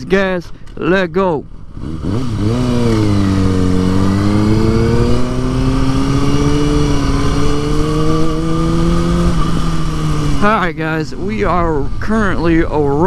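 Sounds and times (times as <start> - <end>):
motorcycle engine accelerating: 1.4 - 13.0.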